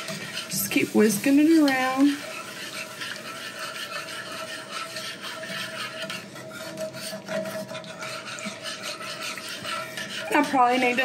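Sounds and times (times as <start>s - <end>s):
whisk scraping a pan: 0.0s - 11.0s.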